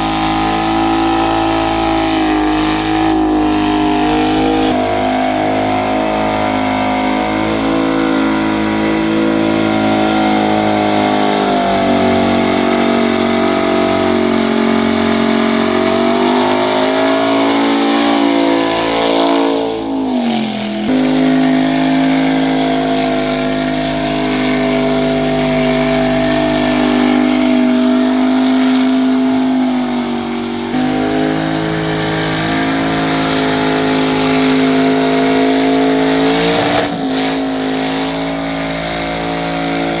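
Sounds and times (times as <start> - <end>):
car engine at high revs: 0.0 - 40.0.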